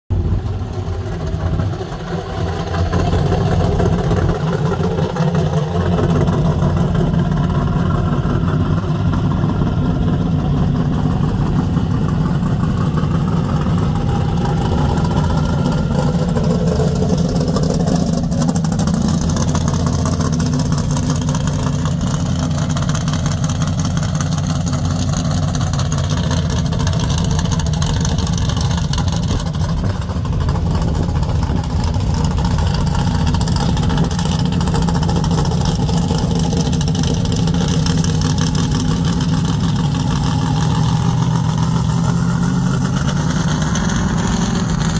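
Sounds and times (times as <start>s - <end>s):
car engine rumbling driving past: 0.1s - 44.9s.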